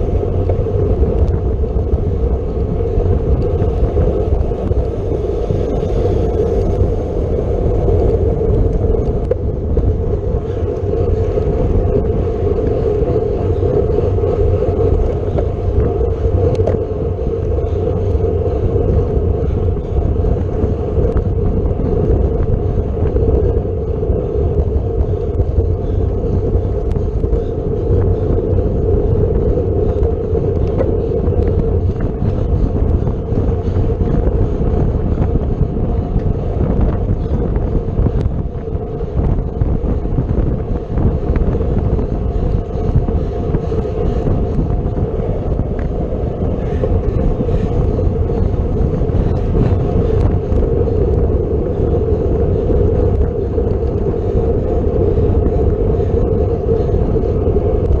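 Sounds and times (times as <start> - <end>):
constant droning hum: 0.0 - 58.0
tyre and road noise: 0.0 - 58.0
wind buffeting microphone: 0.0 - 58.0.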